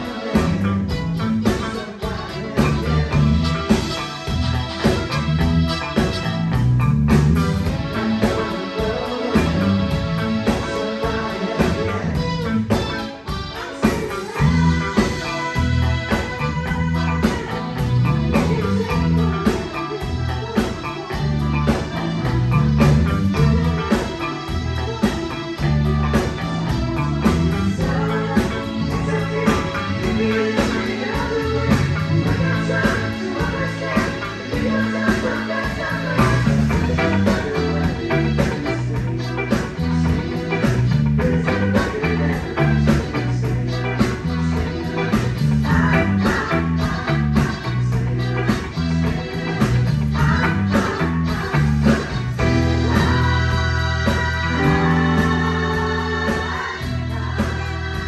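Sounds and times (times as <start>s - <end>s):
live band playing: 0.0s - 58.0s
moving bass line: 0.0s - 58.0s.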